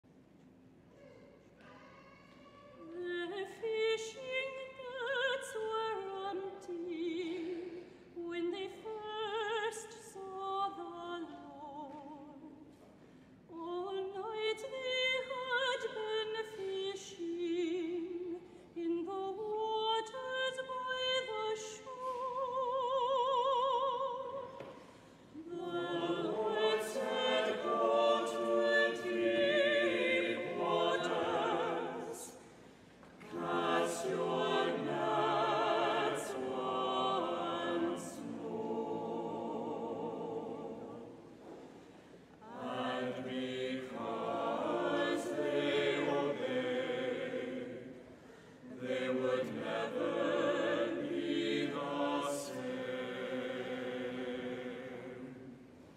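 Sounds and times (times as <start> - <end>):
choir singing a hymn: 2.8 - 12.7, 13.5 - 41.8, 42.4 - 55.8.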